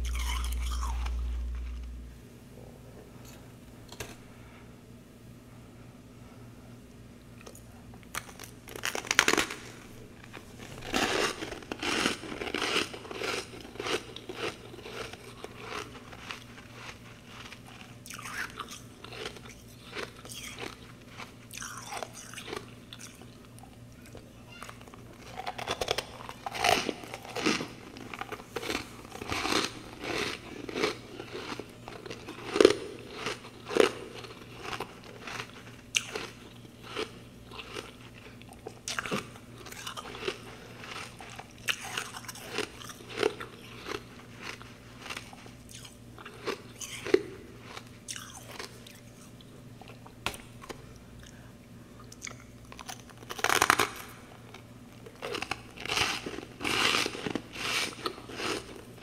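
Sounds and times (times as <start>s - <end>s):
chewing crunchy ice: 0.0s - 2.0s, 8.2s - 51.4s, 52.0s - 59.0s
faint low hum: 0.0s - 59.0s.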